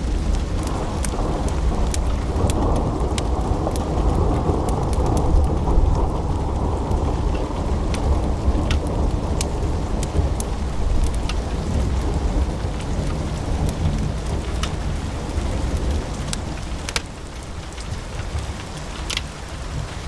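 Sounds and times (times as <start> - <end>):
logs crackling and popping: 0.0 - 20.0
roar of flames: 0.0 - 20.0.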